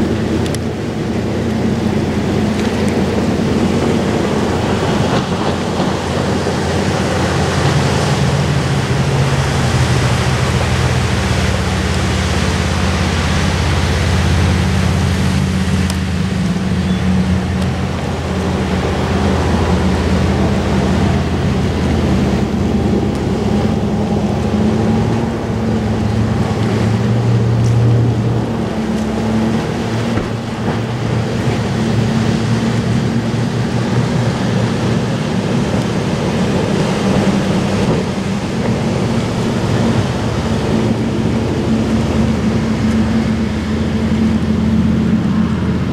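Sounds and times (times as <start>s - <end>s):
boat engines droning: 0.0s - 45.9s.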